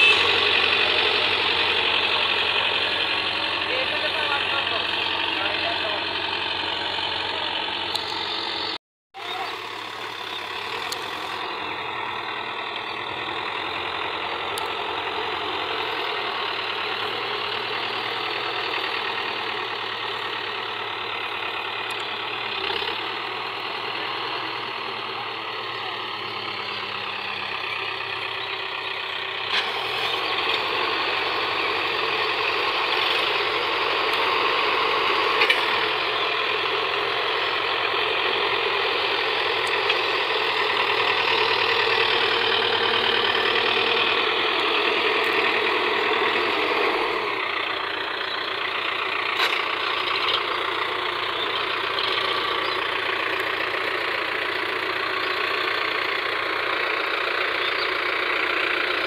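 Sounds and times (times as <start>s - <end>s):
diesel engines droning: 0.0s - 59.0s.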